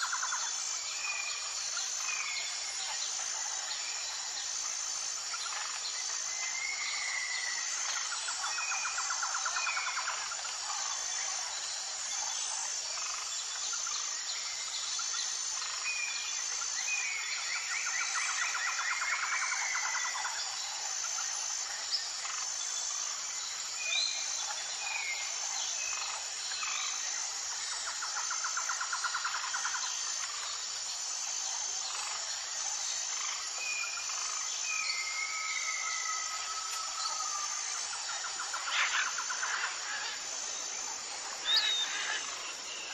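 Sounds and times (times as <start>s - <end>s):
high insect trill: 0.0s - 42.9s.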